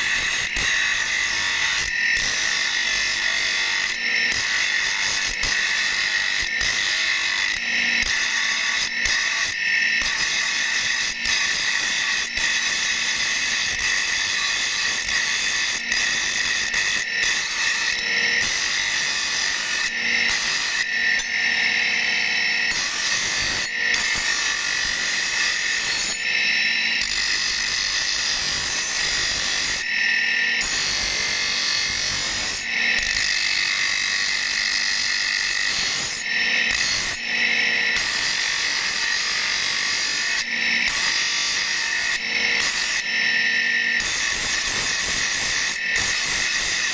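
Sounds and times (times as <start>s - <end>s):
bench grinder grinding steel: 0.0s - 46.9s.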